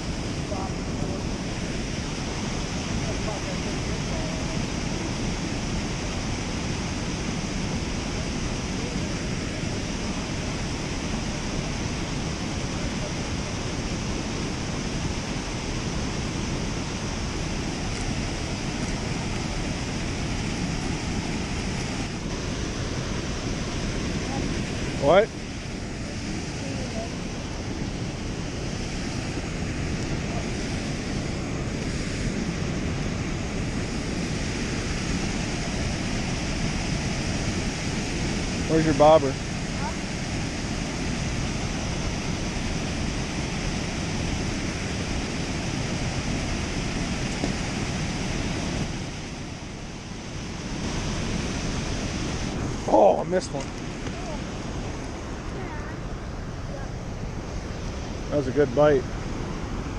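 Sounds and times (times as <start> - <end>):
water rushing through dam spillway: 0.0 - 59.9
wind buffeting microphone: 0.0 - 59.9.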